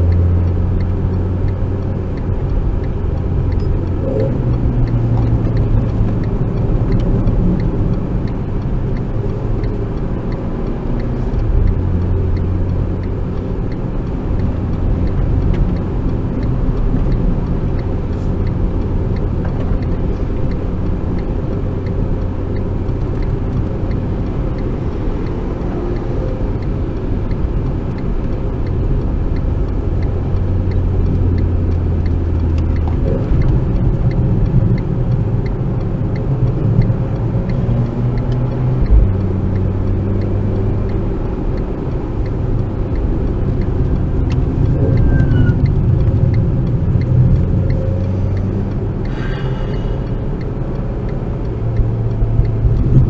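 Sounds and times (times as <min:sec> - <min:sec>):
car engine accelerating: 0:00.0 - 0:53.0
road and tyre noise: 0:00.0 - 0:53.0.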